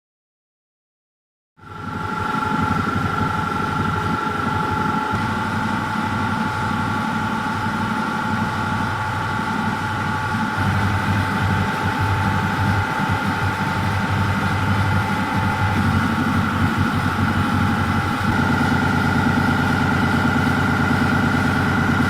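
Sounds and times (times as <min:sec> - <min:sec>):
compressors rumbling with whine: 0:01.6 - 0:22.0.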